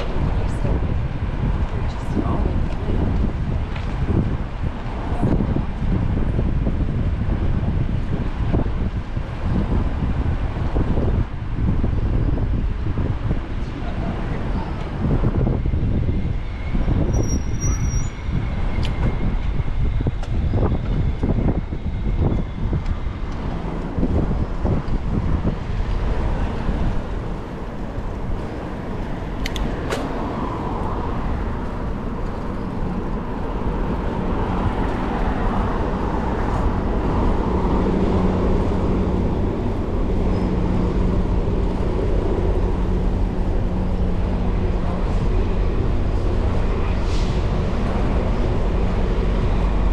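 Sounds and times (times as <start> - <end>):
city street traffic: 0.0 - 49.9
vehicle engine hum: 0.0 - 49.9
wind on microphone: 0.0 - 49.9.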